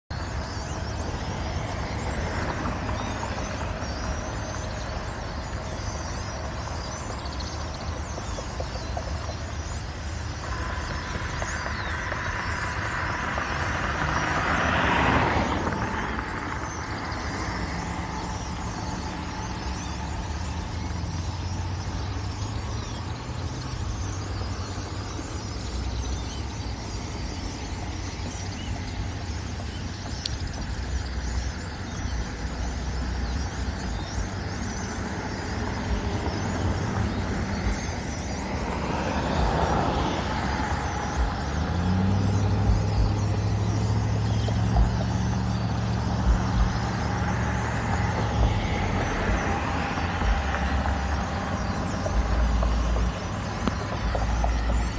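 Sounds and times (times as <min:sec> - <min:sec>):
flock of small birds calling: 0:00.0 - 0:54.9.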